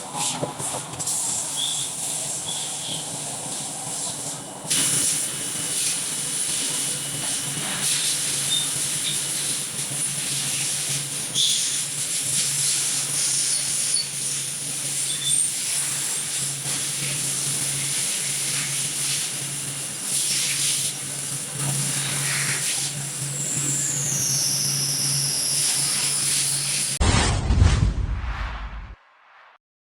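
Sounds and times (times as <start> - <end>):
machine cutting metal hiss: 1.0 - 26.9.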